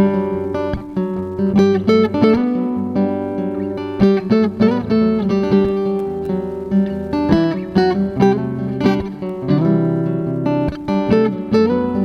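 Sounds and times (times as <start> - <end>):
fingerstyle acoustic guitar: 0.0 - 12.0.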